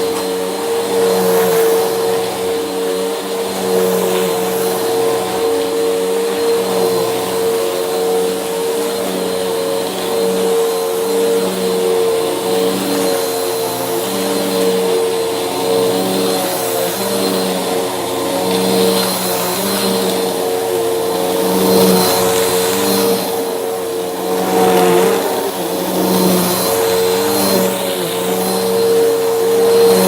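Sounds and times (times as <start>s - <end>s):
vacuum cleaner motor hum: 0.0s - 30.0s.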